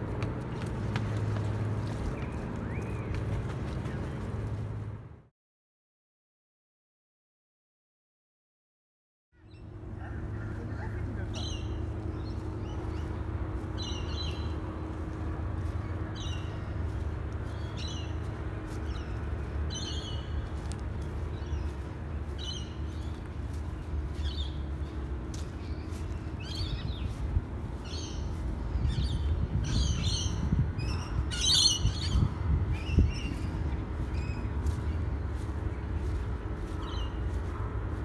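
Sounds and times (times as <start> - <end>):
birds chirping: 0.0 - 5.0, 9.4 - 38.0.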